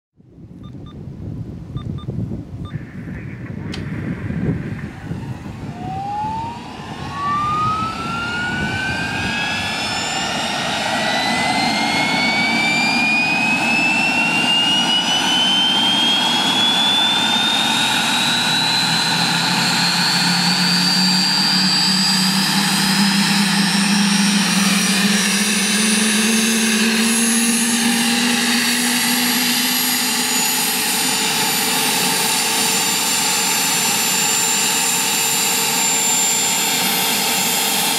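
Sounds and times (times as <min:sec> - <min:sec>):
low rising hum: 0:02.4 - 0:37.9
turbine engine whine rising: 0:02.6 - 0:37.9.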